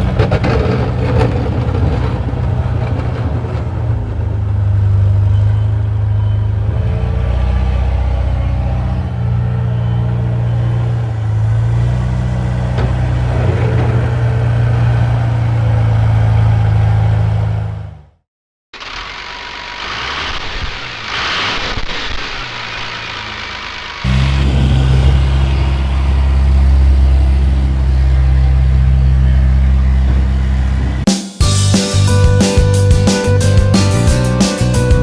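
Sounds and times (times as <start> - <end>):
heavy engine humming: 0.0 - 18.2, 22.6 - 35.0.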